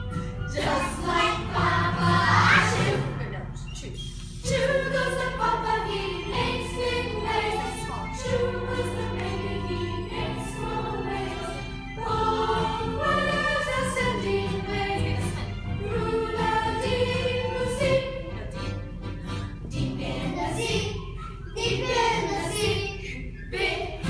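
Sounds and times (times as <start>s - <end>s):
children singing: 0.6s - 3.0s, 4.4s - 18.3s, 19.8s - 21.0s, 21.6s - 24.0s.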